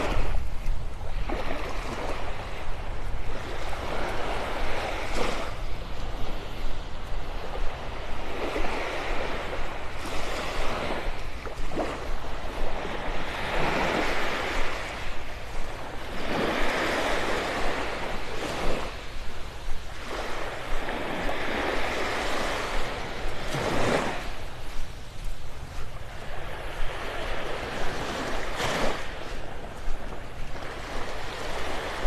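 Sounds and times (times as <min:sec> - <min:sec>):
waves washing onto beach: 0:00.0 - 0:32.0.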